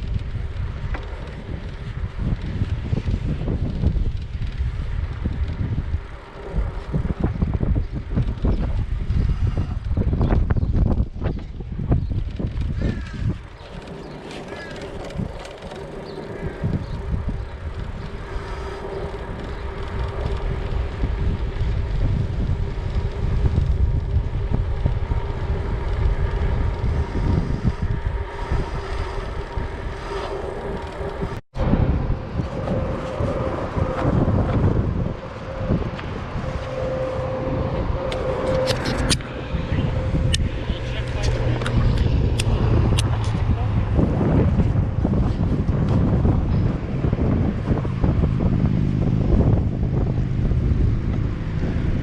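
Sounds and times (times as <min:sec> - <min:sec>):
road rumble: 0:00.0 - 0:52.0
wind rushing over microphone: 0:00.0 - 0:52.0.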